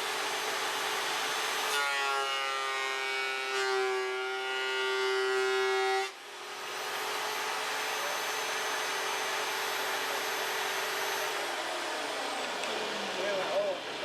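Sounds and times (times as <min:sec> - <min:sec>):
electric wood planer whining: 0:00.0 - 0:14.0.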